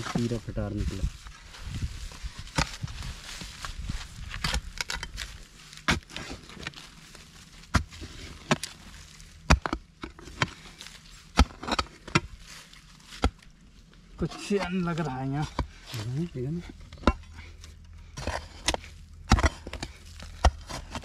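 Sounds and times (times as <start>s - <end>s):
soil grating and falling: 0.0s - 21.0s
hand hoe striking soil: 2.2s - 13.5s, 14.2s - 21.0s.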